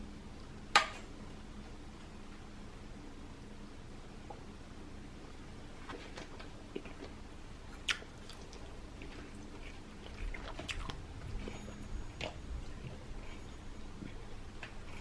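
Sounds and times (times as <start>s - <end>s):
soft squishing of food: 0.0s - 15.0s.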